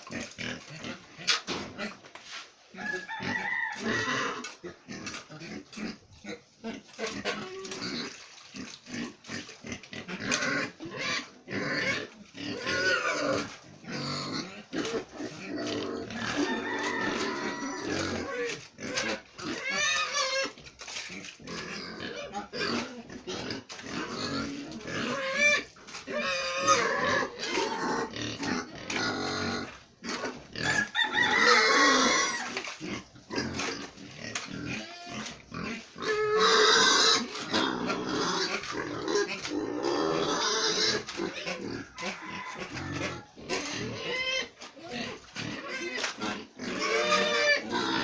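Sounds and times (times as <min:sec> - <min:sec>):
pigs squealing: 0:00.0 - 0:02.0, 0:02.7 - 0:48.0.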